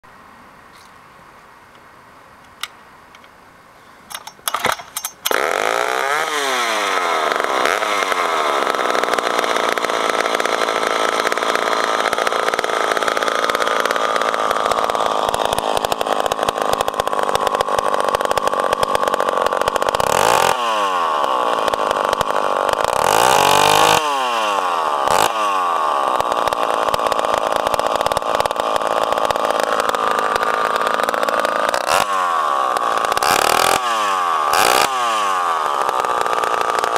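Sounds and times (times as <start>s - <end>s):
saw engine starting and revving: 4.1s - 36.9s.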